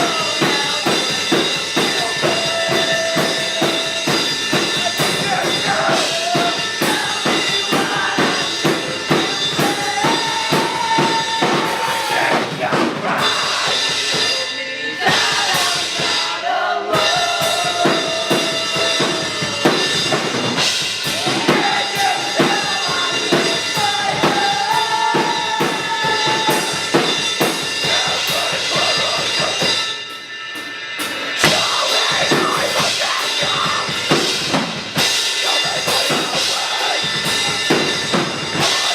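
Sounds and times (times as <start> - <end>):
fast drumming: 0.0 - 30.0, 31.0 - 38.9
metal band playing live: 0.0 - 38.9.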